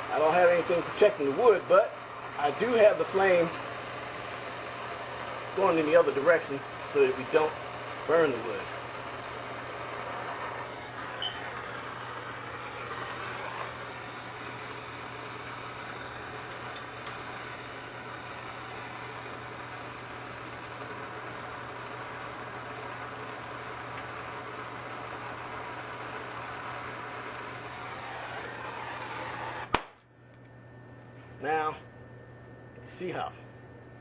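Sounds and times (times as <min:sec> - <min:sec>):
gas torch hissing: 0:00.0 - 0:29.9.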